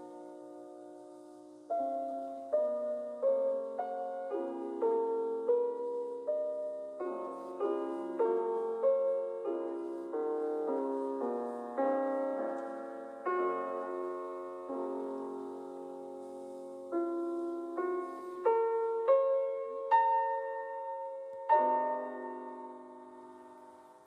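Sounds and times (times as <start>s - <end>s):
gentle solo piano melody: 0.0s - 24.0s.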